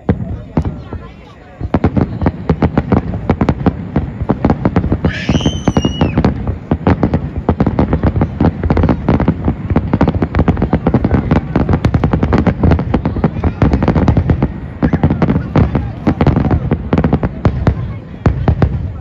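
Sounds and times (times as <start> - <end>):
firework whistling: 0.0 - 19.0
fireworks bangs and crackles: 0.0 - 19.0.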